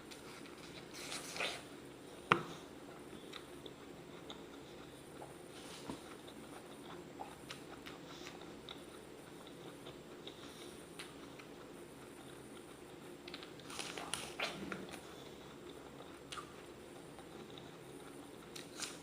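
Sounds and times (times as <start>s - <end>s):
person chewing raw apple: 0.0s - 19.0s.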